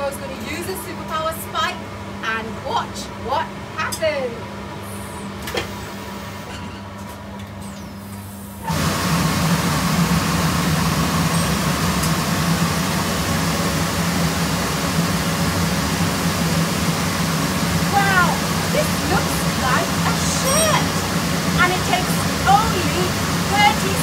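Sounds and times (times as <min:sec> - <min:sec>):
low steady machine hum: 0:00.0 - 0:24.0.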